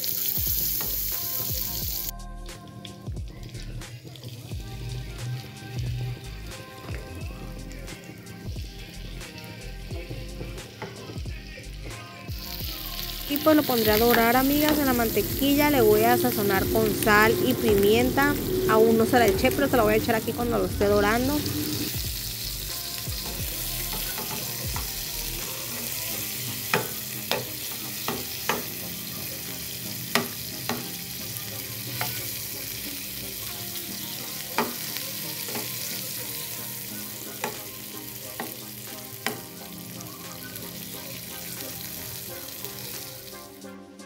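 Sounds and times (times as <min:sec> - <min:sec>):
shrimp sizzling in butter: 0:00.0 - 0:43.8.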